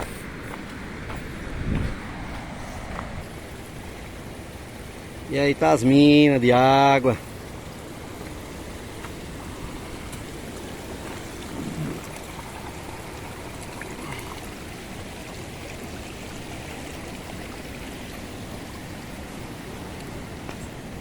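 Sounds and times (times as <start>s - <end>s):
stream water trickling: 0.0s - 21.0s.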